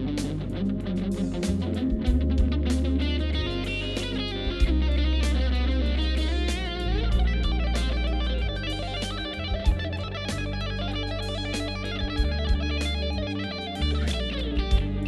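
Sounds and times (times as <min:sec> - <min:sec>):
electric guitar picking notes: 0:00.0 - 0:15.0
low sustained bass: 0:00.0 - 0:15.0.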